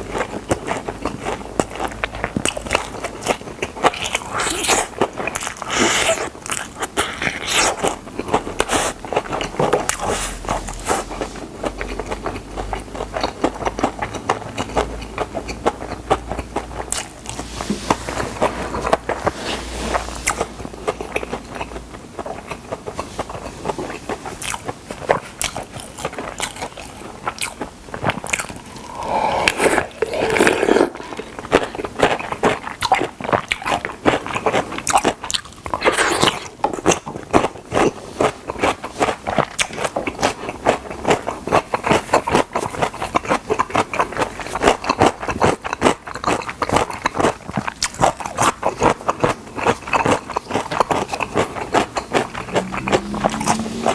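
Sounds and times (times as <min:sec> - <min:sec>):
crunchy chewing of fried chicken: 0:00.0 - 0:53.9.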